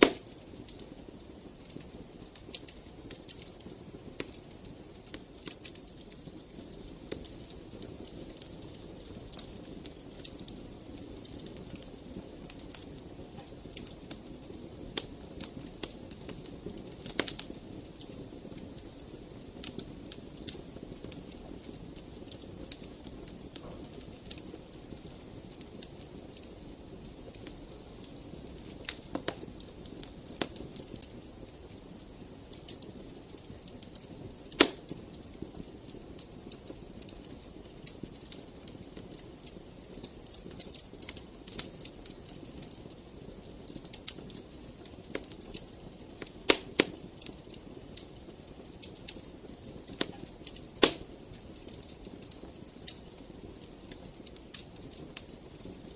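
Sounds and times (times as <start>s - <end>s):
fire crackles and pops: 0.0s - 55.9s
fire flames rushing: 0.0s - 55.9s.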